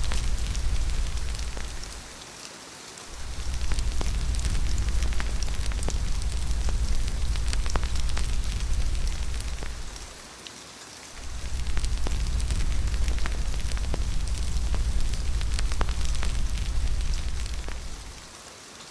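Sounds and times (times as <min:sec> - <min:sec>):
crackling fire with pops: 0:00.0 - 0:02.2, 0:03.1 - 0:10.2, 0:11.2 - 0:18.3
deep rumble: 0:00.0 - 0:02.2, 0:03.1 - 0:10.2, 0:11.2 - 0:18.3
steady rain: 0:00.0 - 0:18.9.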